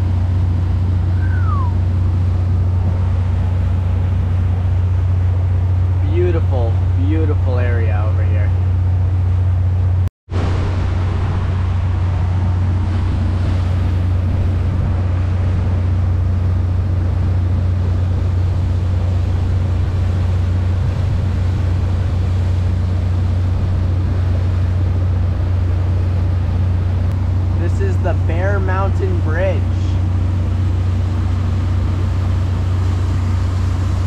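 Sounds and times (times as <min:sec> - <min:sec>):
boat engine droning: 0:00.0 - 0:34.0
water and wind noise: 0:00.0 - 0:34.0.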